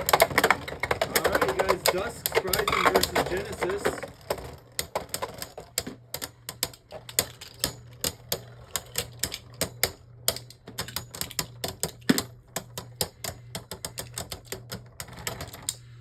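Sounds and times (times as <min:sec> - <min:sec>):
spinning tops clacking in plastic stadium: 0:00.0 - 0:15.8.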